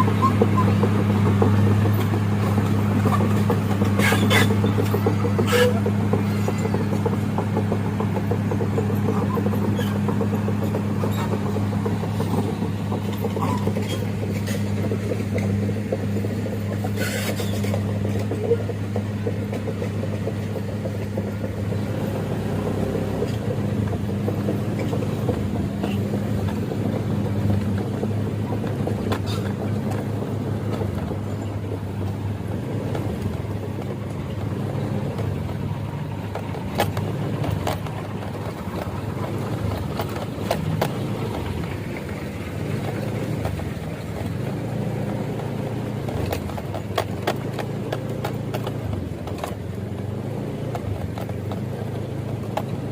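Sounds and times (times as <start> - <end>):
engine humming: 0.0 - 52.9.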